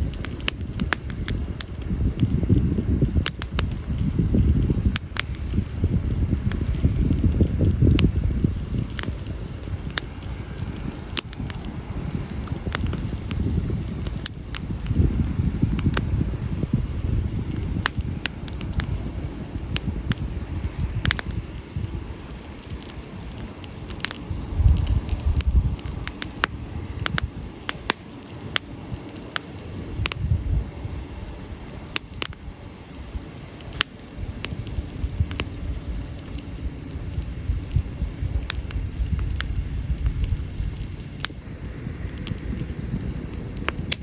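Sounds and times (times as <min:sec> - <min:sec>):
burning wood crackling: 0:00.0 - 0:44.0.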